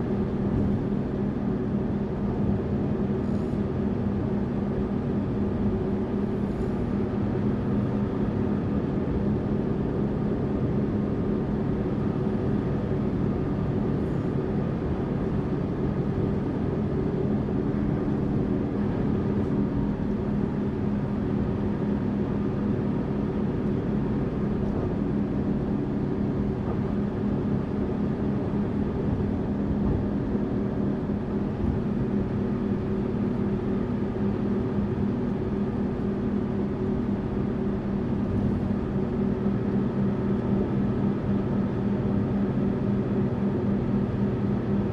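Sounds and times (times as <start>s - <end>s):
bus engine and road noise: 0.0s - 44.9s.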